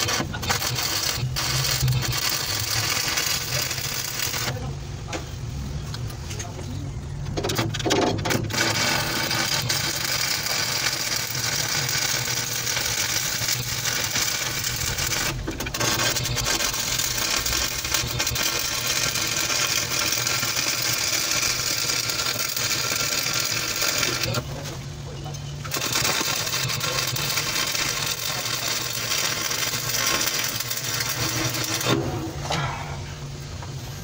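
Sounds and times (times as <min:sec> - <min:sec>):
welding arc crackling: 0:00.0 - 0:04.6, 0:08.3 - 0:24.5, 0:25.6 - 0:32.1.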